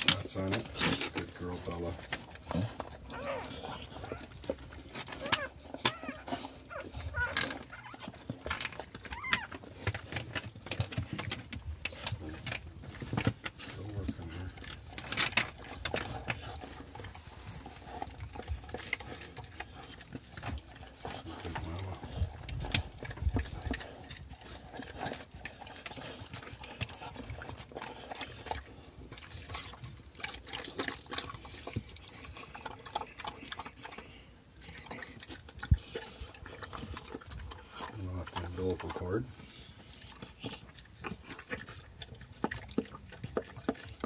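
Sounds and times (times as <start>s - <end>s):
dog licking and snuffling: 0.0s - 44.0s.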